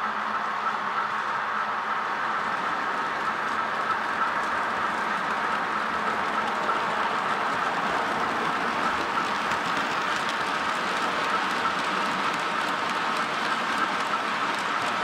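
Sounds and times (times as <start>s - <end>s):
model train whirring: 0.0s - 15.0s
wheels clicking over track: 2.2s - 15.0s.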